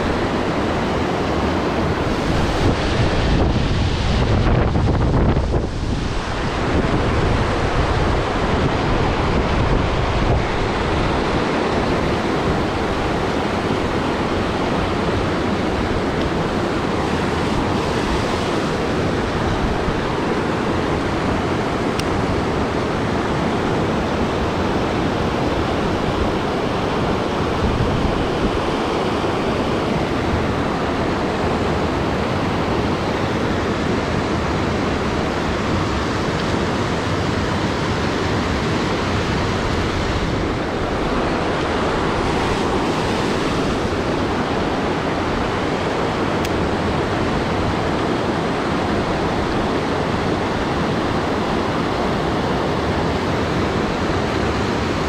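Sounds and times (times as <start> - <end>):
creek water rushing: 0.0 - 55.0
wind buffeting microphone: 0.0 - 55.0.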